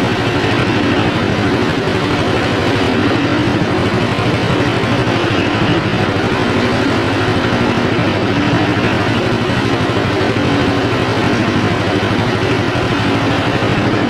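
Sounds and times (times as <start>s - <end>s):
machine droning: 0.0s - 14.0s.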